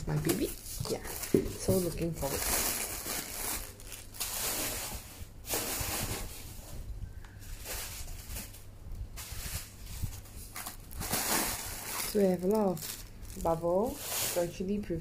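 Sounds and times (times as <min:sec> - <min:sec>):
bubble wrap and bags crinkling: 0:00.0 - 0:15.0.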